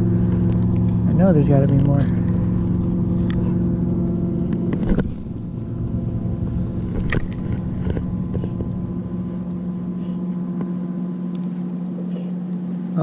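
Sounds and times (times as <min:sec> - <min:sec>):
wind rumble on microphone: 0:00.0 - 0:10.8
boat motor humming: 0:00.0 - 0:13.0.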